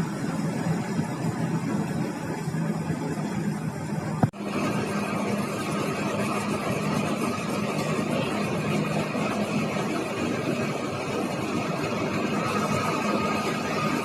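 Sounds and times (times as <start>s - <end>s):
bus engine running: 0.0s - 14.0s
rumble of moving vehicle: 0.0s - 14.0s.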